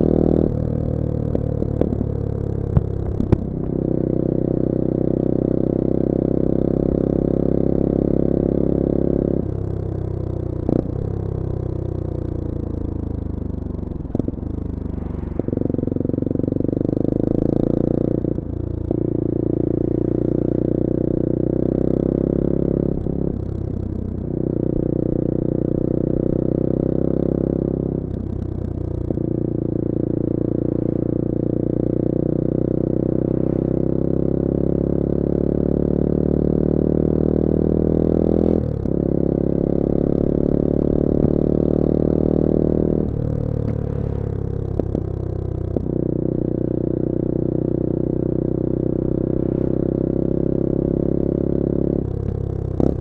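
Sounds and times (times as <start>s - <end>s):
motorcycle engine while riding: 0.0s - 53.0s.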